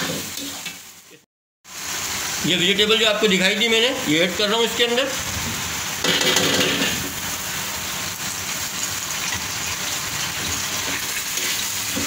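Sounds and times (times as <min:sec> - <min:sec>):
sauce boiling in a wok: 0:00.0 - 0:12.0.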